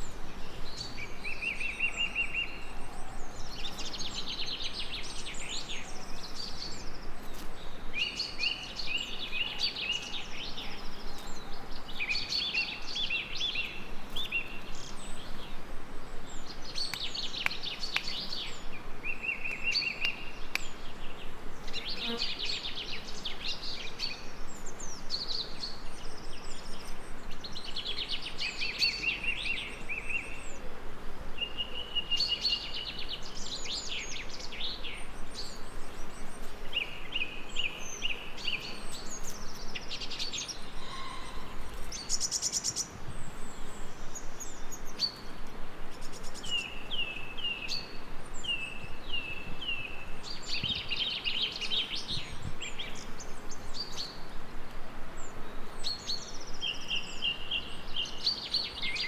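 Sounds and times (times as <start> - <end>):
songbirds singing and chirping: 0.0 - 59.0
steady background hiss: 0.0 - 59.0.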